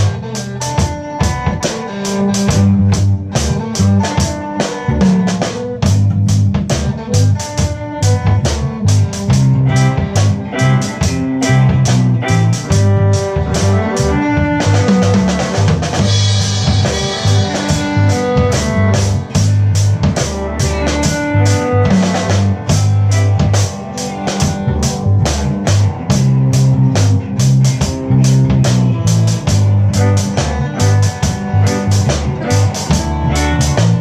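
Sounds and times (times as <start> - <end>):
reggae band playing: 0.0 - 34.0.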